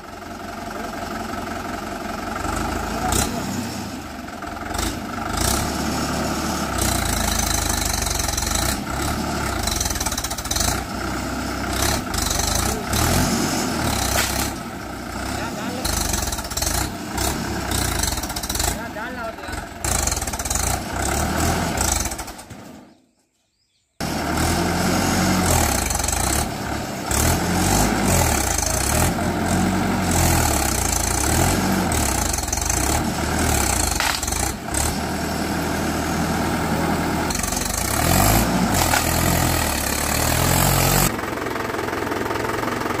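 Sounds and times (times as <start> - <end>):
tractor diesel engine revving: 0.0 - 23.0, 24.0 - 43.0.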